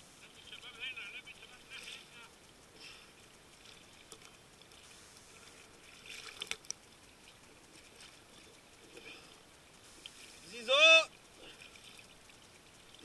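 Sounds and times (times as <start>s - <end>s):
sea water lapping and splashing: 0.4s - 13.0s.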